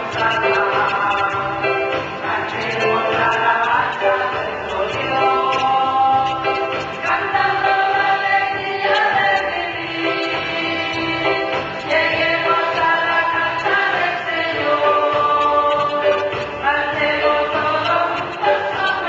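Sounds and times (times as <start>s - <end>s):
women's choir singing a hymn: 0.0s - 19.0s.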